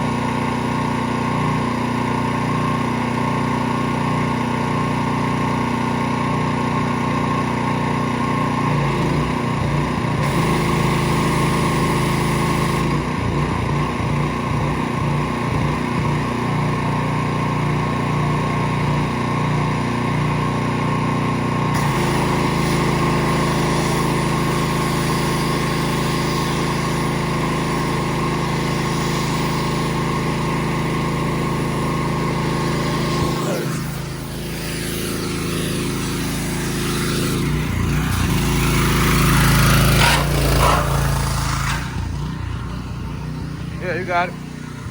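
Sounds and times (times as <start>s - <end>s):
engine running loudly: 0.0s - 44.9s.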